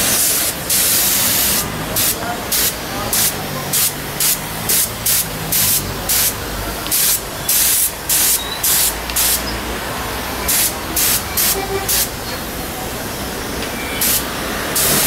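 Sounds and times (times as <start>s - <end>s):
spray gun hissing in bursts: 0.0s - 15.0s.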